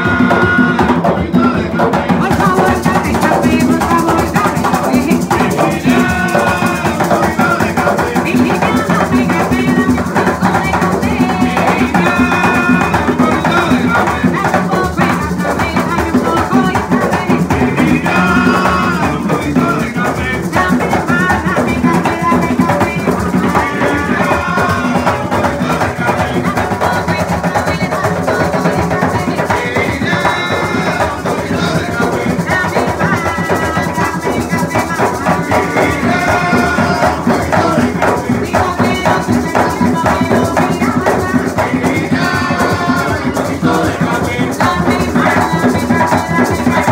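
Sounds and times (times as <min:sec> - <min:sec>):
hand drums playing: 0:00.0 - 0:46.9
maraca shaking: 0:00.0 - 0:46.9
person singing: 0:00.0 - 0:46.9.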